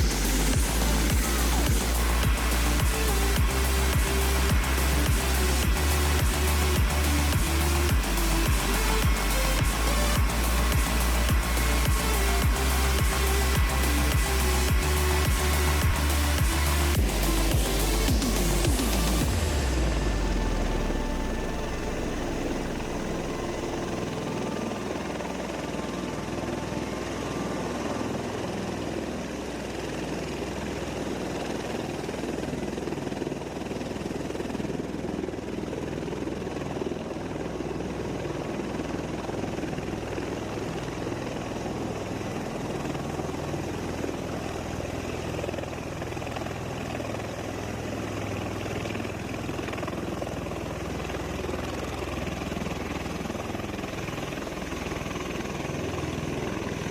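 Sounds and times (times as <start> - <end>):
aircraft rotor thrum and turbine noise: 0.0 - 56.9.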